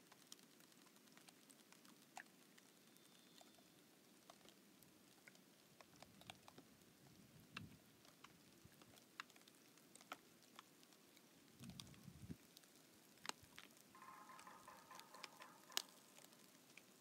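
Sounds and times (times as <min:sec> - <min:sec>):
lake ice crackling: 0:00.0 - 0:17.0.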